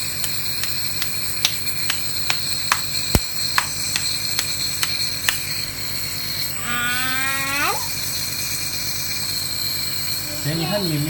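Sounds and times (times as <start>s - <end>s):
air compressor humming with whine: 0.0s - 11.0s.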